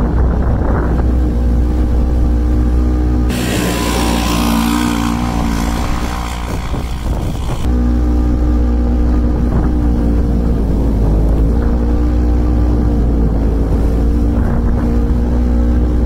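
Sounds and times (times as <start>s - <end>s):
low wind rumble on microphone: 0.0s - 16.0s
engine running: 1.2s - 16.0s.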